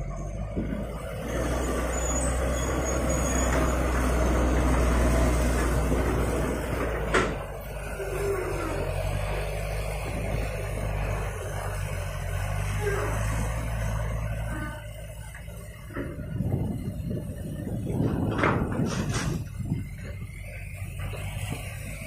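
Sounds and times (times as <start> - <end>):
diesel engines running: 0.0 - 22.0.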